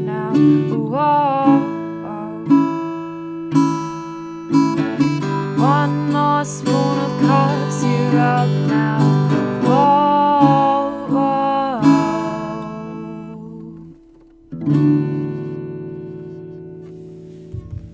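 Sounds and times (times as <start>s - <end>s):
acoustic guitar strumming: 0.0s - 17.9s.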